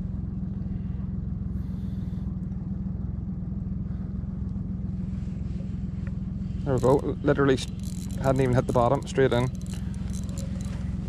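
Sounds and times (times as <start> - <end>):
boat engine running at low revs: 0.0 - 11.0.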